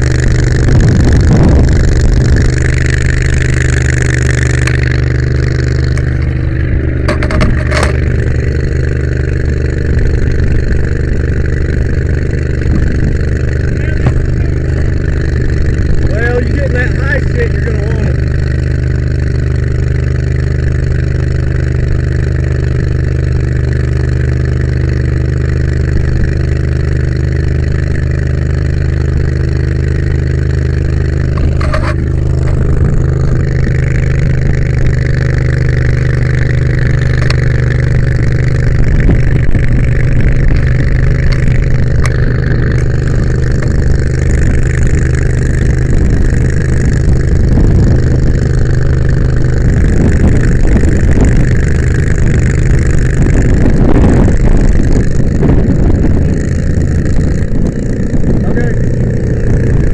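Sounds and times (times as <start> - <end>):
fire truck engine humming: 0.0 - 59.9.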